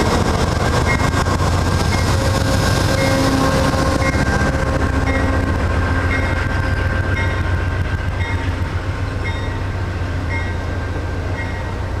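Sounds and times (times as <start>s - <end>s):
rail joint clicks: 0.0s - 12.0s
train wheels rumbling on rails: 0.0s - 12.0s.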